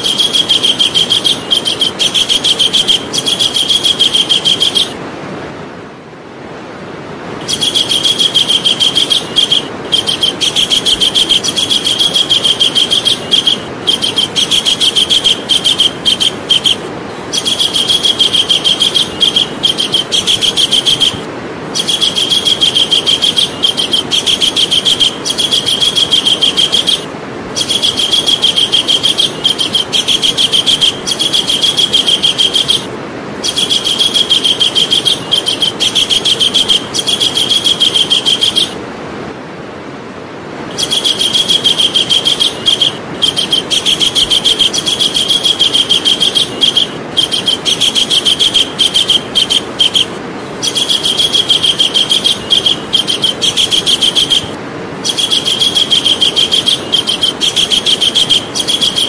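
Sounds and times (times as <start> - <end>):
kingfisher shrill trilling call: 0.0 - 5.0, 7.4 - 38.8, 40.7 - 59.0
steady background hiss: 0.0 - 59.0.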